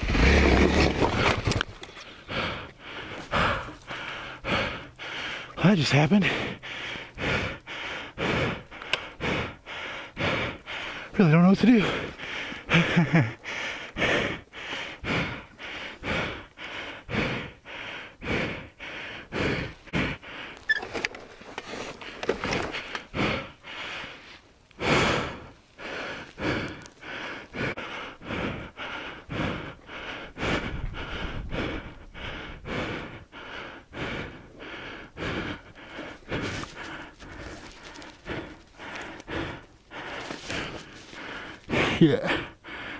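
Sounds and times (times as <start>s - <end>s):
person breathing hard: 1.0s - 20.8s, 21.6s - 42.9s.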